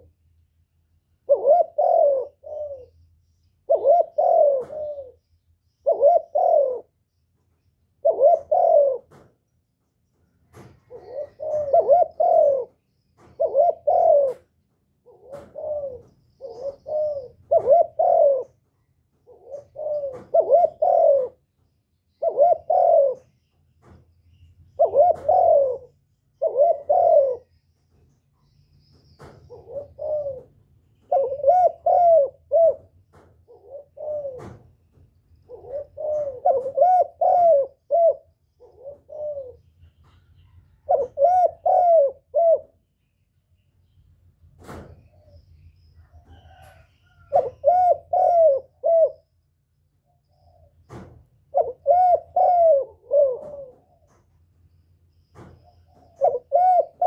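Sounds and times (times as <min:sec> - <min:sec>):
dove cooing: 0:00.0 - 0:00.2, 0:01.1 - 0:09.4, 0:10.5 - 0:42.9, 0:44.6 - 0:54.7, 0:55.3 - 0:57.0.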